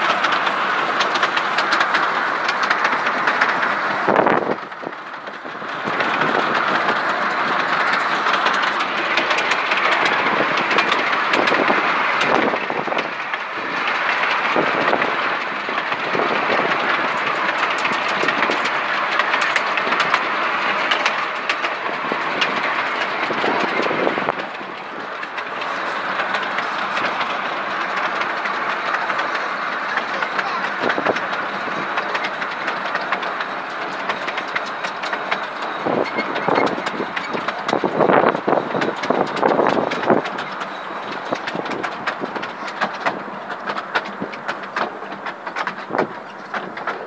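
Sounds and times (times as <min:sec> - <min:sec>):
wagons rattling rumble: 0:00.0 - 0:47.0
wheels clickety-clack: 0:00.0 - 0:47.0.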